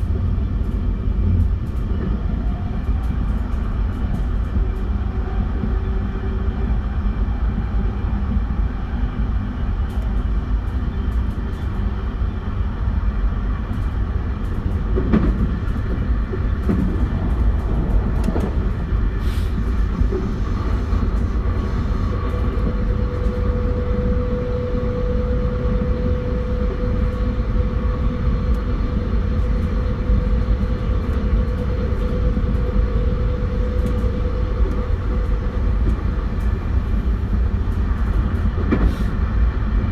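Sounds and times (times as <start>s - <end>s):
traction equipment hum: 0.0s - 39.9s
train wheels rumbling on rail: 0.0s - 39.9s.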